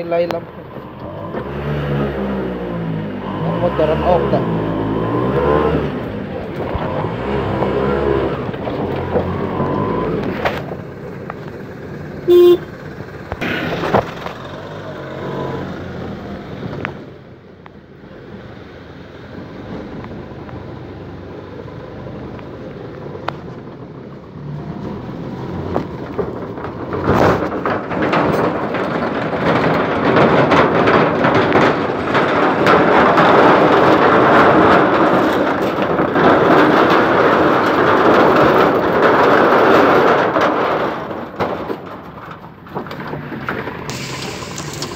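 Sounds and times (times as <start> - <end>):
tyres splashing through mud: 0.0 - 17.3, 18.2 - 44.9.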